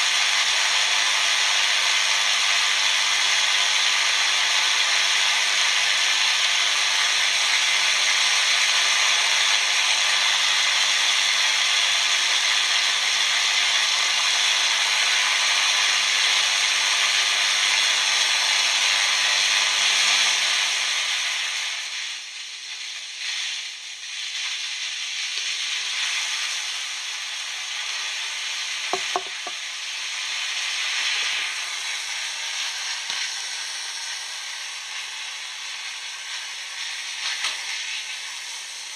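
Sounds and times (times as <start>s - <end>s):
electric arc hissing and sputtering: 0.0s - 38.9s.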